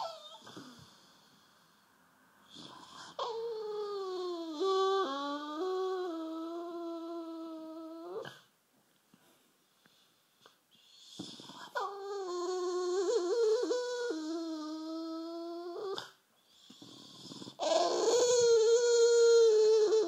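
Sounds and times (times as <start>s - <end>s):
puppy whining moans: 0.0s - 1.8s, 2.4s - 8.5s, 10.8s - 20.0s.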